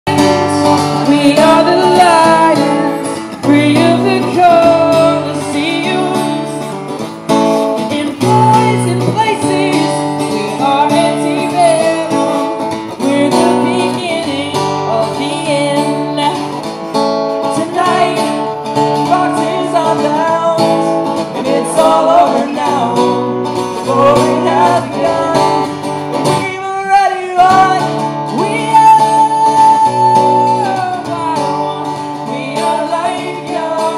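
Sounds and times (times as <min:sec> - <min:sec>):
person singing: 0:00.0 - 0:16.8, 0:17.4 - 0:33.9
guitar strumming chords: 0:00.0 - 0:33.9.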